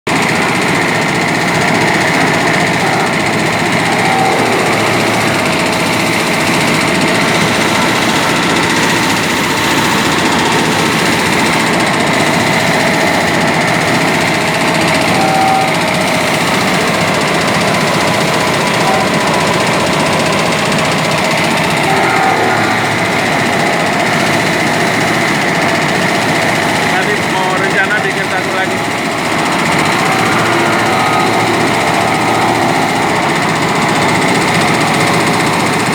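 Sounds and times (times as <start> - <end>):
engine running with rapid clatter: 0.0 - 35.9.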